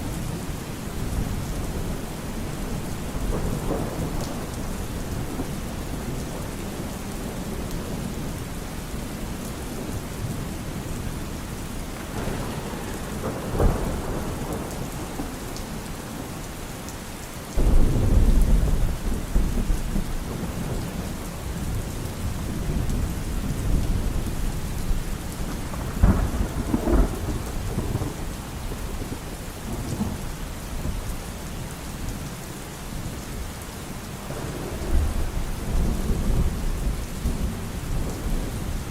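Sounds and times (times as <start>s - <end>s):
thunder rumbling: 0.0s - 16.7s, 17.6s - 31.1s, 34.2s - 38.9s
steady rain: 0.0s - 38.9s.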